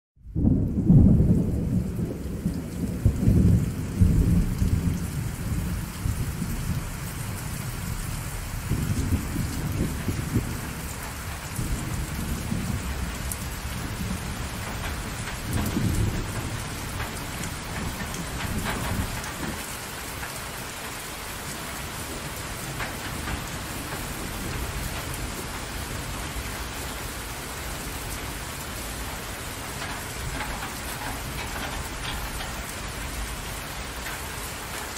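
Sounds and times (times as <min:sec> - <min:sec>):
rain falling on water: 0:00.2 - 0:34.9
rolling thunder: 0:00.2 - 0:34.9.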